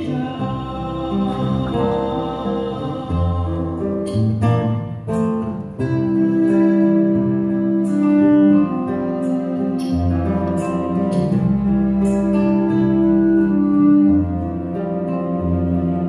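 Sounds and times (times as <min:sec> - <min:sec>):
acoustic guitar: 0:00.0 - 0:16.0
bowed cello: 0:00.0 - 0:16.0.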